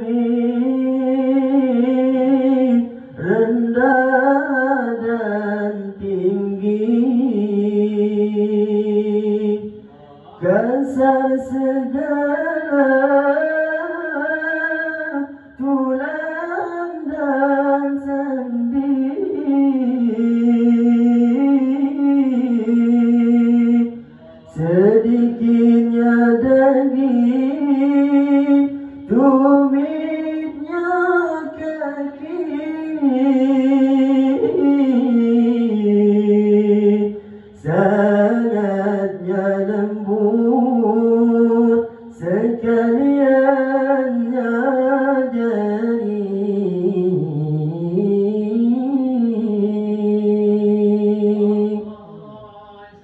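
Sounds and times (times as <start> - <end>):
man singing into microphone: 0.0 - 53.0.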